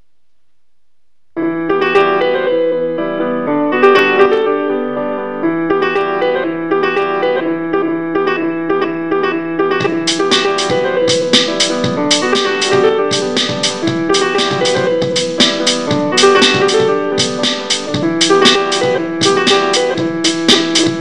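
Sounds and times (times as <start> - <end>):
piano keyboard loop: 1.4 - 21.0.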